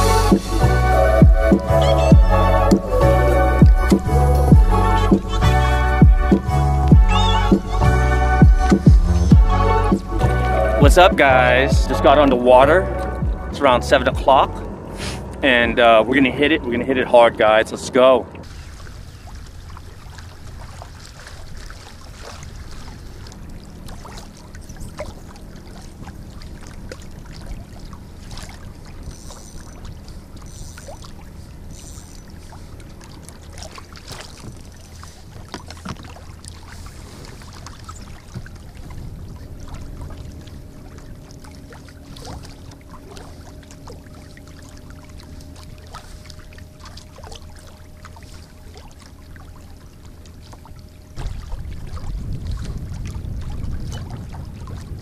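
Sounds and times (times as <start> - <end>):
steady low rumble: 0.0 - 29.0, 34.7 - 55.0
water lapping along a hull: 0.0 - 55.0.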